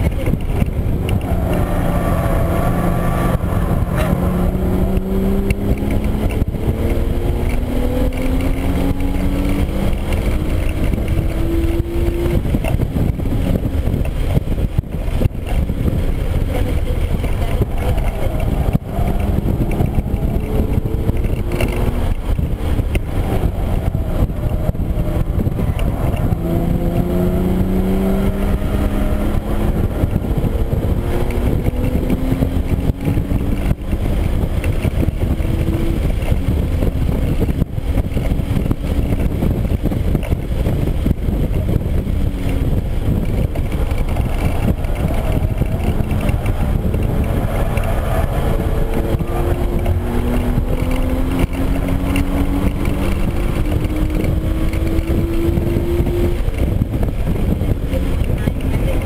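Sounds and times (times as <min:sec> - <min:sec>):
car engine accelerating: 0:00.0 - 0:59.0
road and wind rumble: 0:00.0 - 0:59.0.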